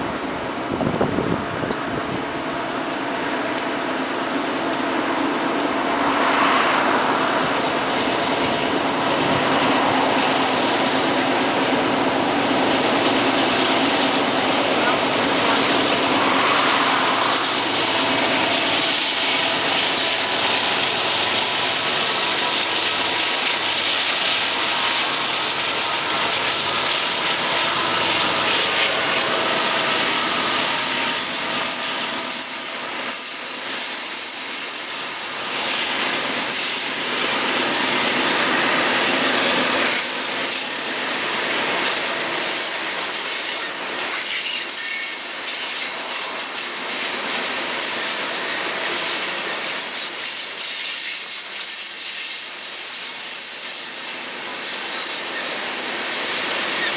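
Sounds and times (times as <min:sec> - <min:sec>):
diesel locomotives passing: 0:00.0 - 0:56.9
train wheels rolling on track: 0:00.0 - 0:56.9.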